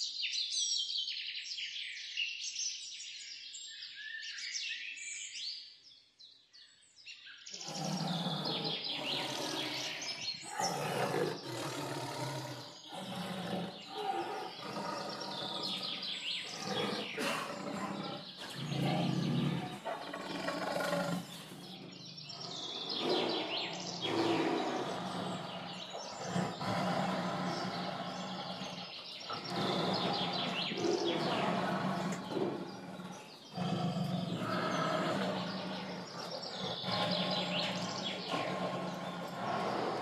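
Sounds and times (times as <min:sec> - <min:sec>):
birds chirping: 0:07.4 - 0:40.0
outdoor ambience: 0:07.5 - 0:40.0.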